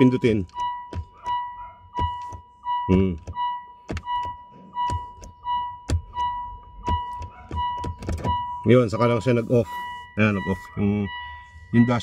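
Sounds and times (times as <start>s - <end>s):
car warning chime beeping: 0.0s - 12.0s.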